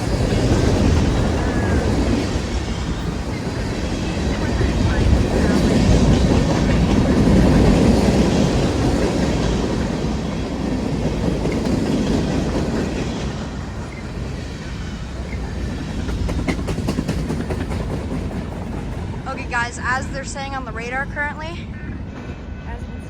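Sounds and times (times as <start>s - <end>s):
train rumbling on tracks: 0.0s - 23.0s
wind buffeting microphone: 0.0s - 23.0s.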